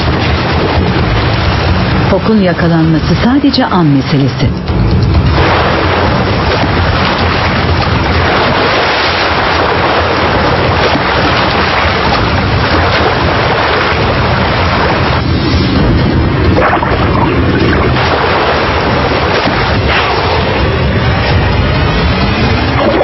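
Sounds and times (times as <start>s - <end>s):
seawater churning and rushing: 0.0s - 23.0s.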